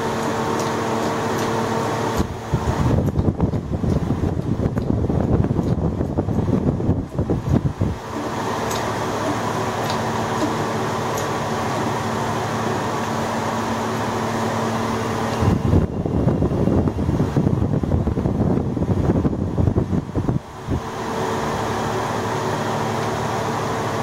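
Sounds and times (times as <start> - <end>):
hydraulic jack pumping rumble and knocks: 0.0 - 24.0
steady fan-like hum: 0.0 - 24.0.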